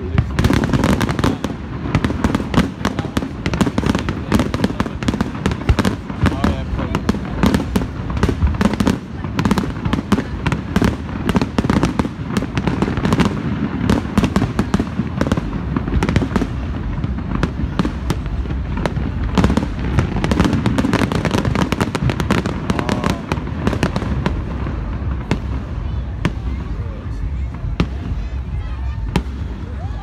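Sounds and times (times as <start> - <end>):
fireworks bursting and crackling: 0.0 - 30.0
steady low rumble: 0.0 - 30.0.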